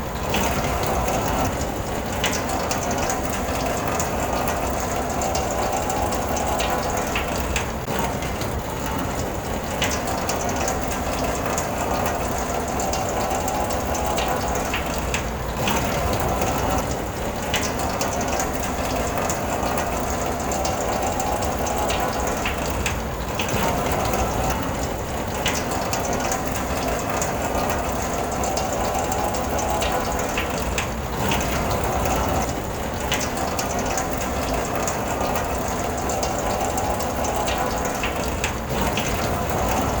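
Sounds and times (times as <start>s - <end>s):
rain on a car roof: 0.0s - 40.0s.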